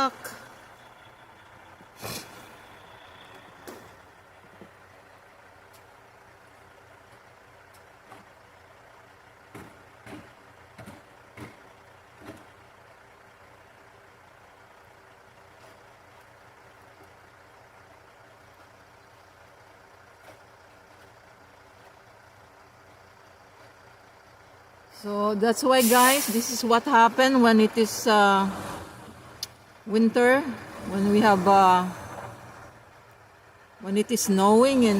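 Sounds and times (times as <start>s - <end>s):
heavy vehicle engine running: 0.0s - 34.9s.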